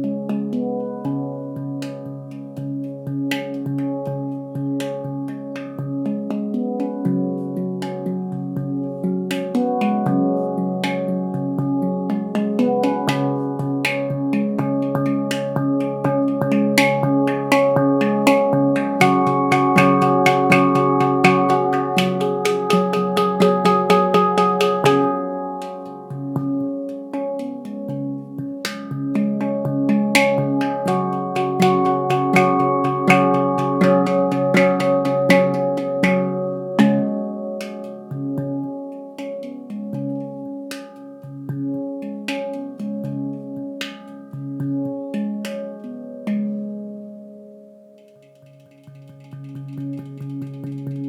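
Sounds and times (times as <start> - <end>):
handpan notes ringing: 3.4 - 47.2, 48.7 - 51.0.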